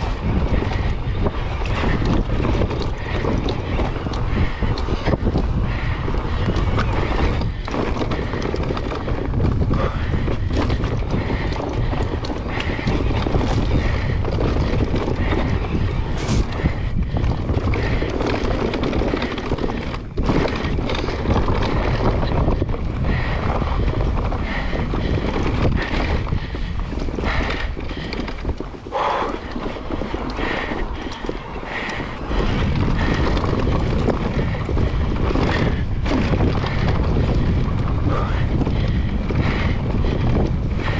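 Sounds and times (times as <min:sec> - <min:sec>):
bike knocks and rattles: 0:00.0 - 0:40.9
bike tyre rumble on dirt: 0:00.0 - 0:40.9
wind buffeting microphone: 0:00.0 - 0:40.9.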